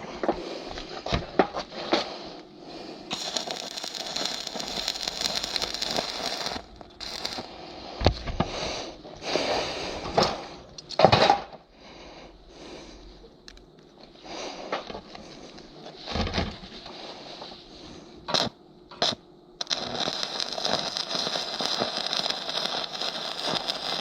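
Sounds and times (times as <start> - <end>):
arc welding crackling and hissing: 0.0 - 11.7, 12.5 - 24.0.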